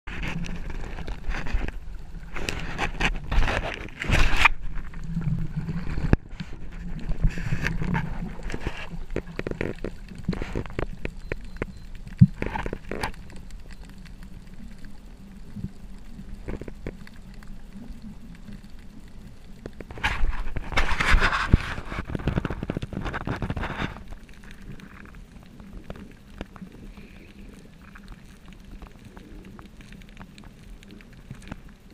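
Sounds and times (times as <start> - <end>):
underwater rumble: 0.1 - 31.9
water gurgling and sloshing: 0.1 - 31.9.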